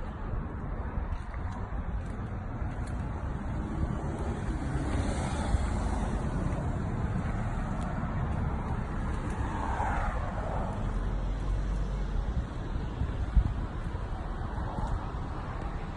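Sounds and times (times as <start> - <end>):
vehicle rumble: 0.0 - 15.9.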